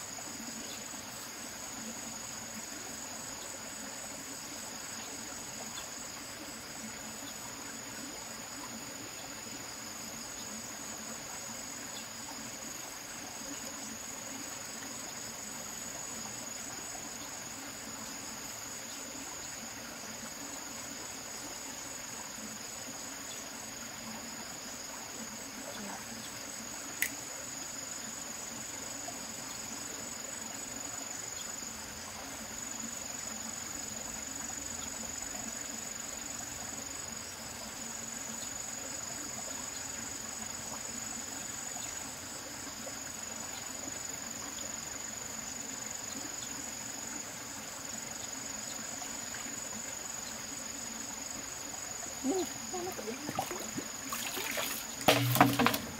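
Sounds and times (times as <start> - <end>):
insects trilling chorus: 0.0 - 55.9.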